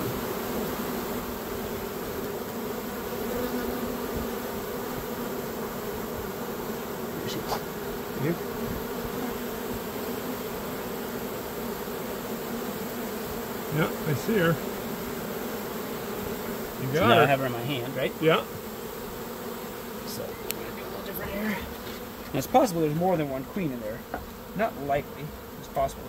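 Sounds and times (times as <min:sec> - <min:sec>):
bee swarm buzzing: 0:00.0 - 0:26.0.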